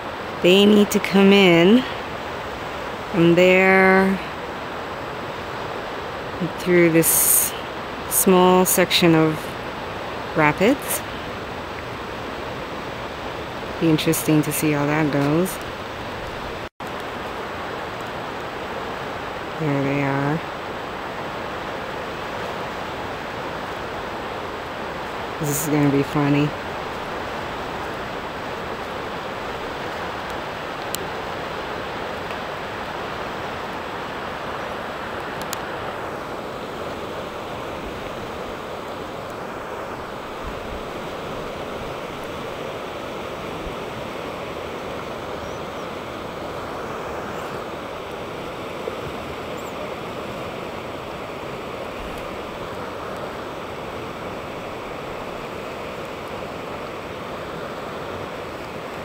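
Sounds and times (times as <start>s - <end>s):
whitewater rushing: 0.0s - 59.0s.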